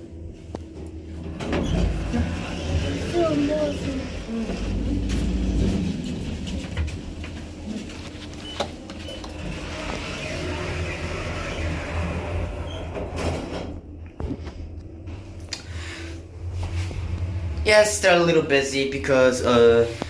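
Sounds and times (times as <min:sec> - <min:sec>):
elevator doors sliding: 0:00.0 - 0:14.0, 0:14.9 - 0:20.0
low hum: 0:00.0 - 0:20.0.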